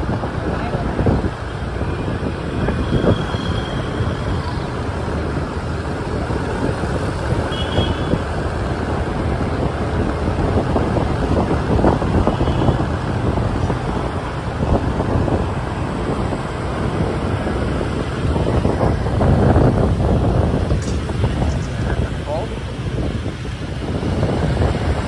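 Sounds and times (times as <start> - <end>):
scooter engines: 0.0 - 25.0
tyres on the road: 0.0 - 25.0
wind on microphone: 0.0 - 25.0.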